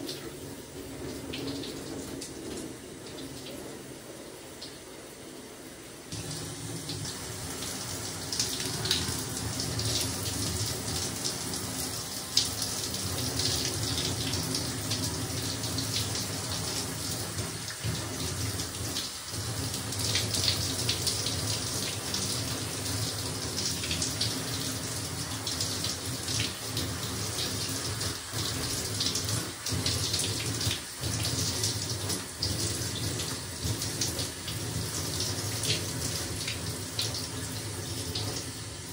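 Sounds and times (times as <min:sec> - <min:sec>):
running water splashing: 0:06.1 - 0:38.9.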